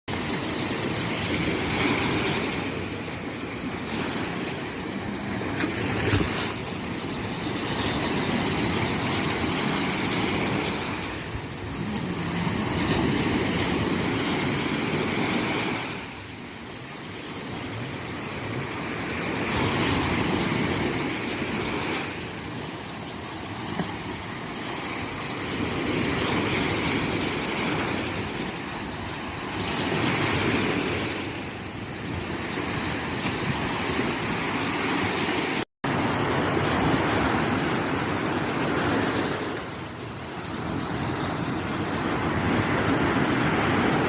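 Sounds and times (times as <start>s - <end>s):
sea waves breaking: 0.1s - 44.0s.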